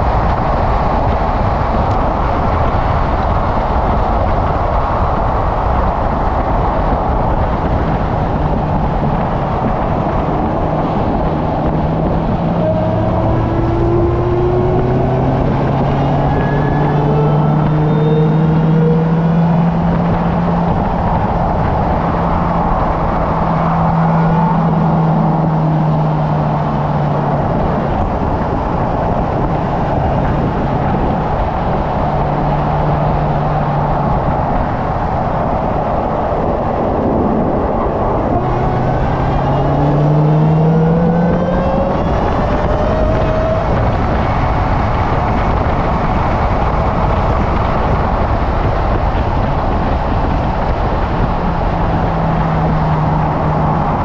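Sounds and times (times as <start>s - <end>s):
car engine accelerating: 0.0s - 54.0s
road and wind noise: 0.0s - 54.0s.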